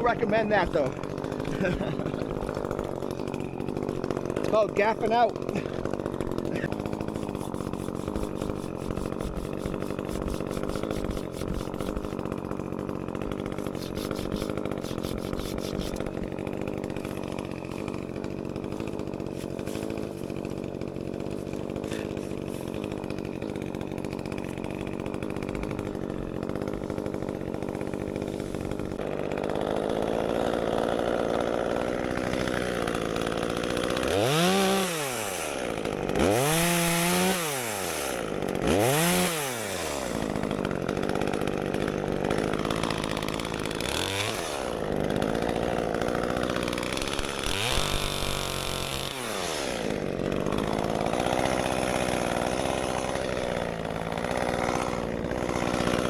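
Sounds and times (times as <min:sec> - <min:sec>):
chainsaw running and revving: 0:00.0 - 0:56.0.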